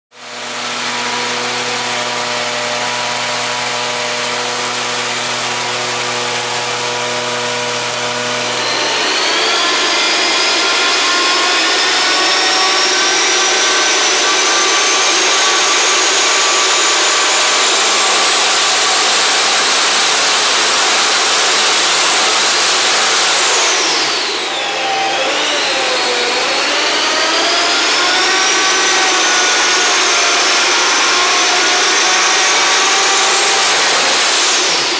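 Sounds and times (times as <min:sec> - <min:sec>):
diesel engine running on dyno: 0:00.2 - 0:34.9
high turbo whine: 0:00.2 - 0:34.9.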